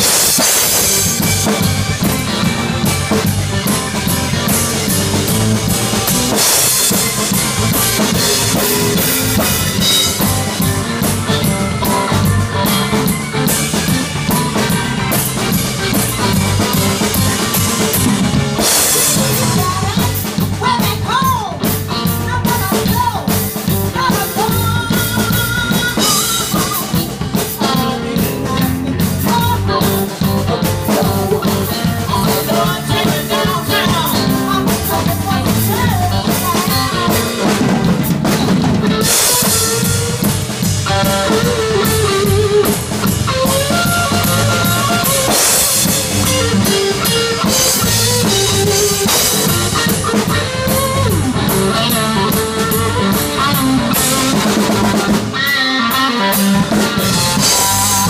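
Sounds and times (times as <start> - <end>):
drum kit beat: 0.0 - 58.0.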